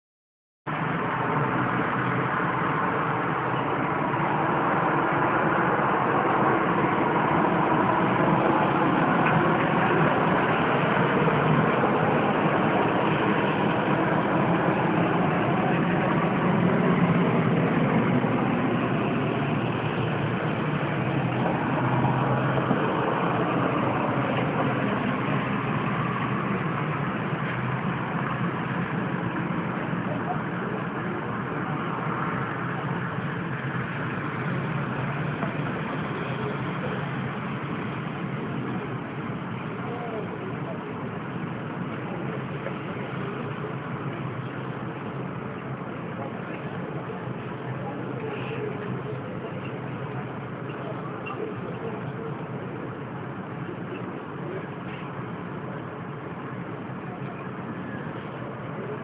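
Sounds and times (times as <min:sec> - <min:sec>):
distant city traffic rumble: 0:00.7 - 0:59.0.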